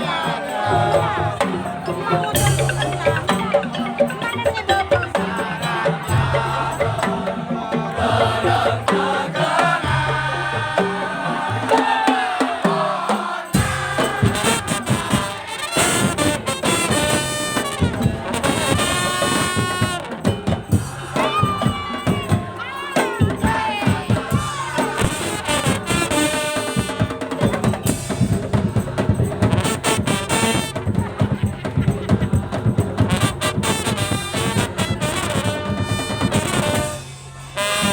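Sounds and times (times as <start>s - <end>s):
drum beats: 0.0s - 37.9s.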